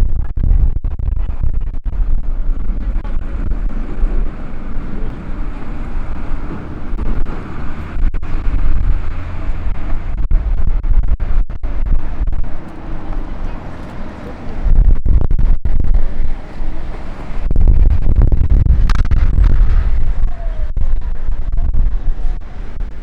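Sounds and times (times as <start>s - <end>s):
wind buffeting microphone: 0.0s - 23.0s
city street traffic: 1.9s - 14.9s, 15.8s - 20.7s, 21.8s - 23.0s.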